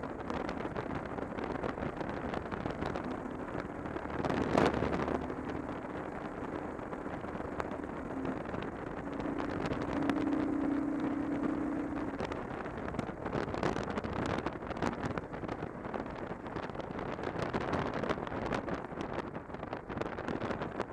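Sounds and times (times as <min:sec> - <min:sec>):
motorcycle engine running: 0:00.0 - 0:18.4
wind rushing over microphone: 0:00.0 - 0:20.9.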